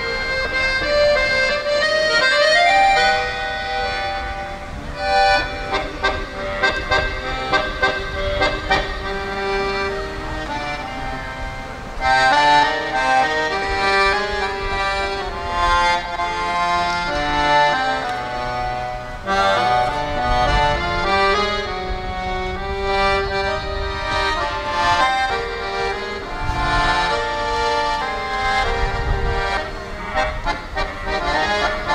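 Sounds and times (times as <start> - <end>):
accordion playing melody: 0.0 - 31.9.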